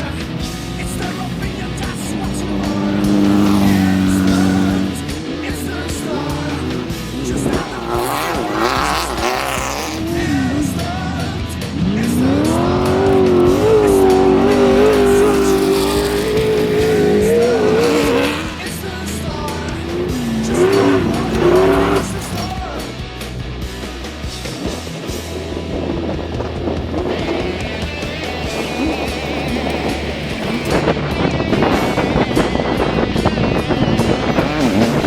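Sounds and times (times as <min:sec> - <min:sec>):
race vehicle engine at full throttle: 0:00.0 - 0:35.0.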